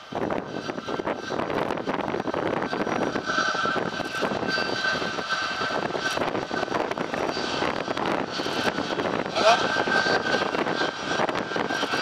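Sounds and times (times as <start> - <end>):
jet engines taxiing: 0.0 - 12.0.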